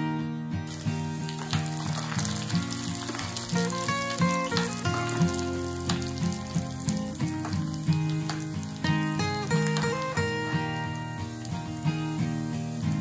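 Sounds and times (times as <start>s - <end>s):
acoustic guitar music: 0.0s - 13.0s
hot oil sizzling: 0.7s - 13.0s.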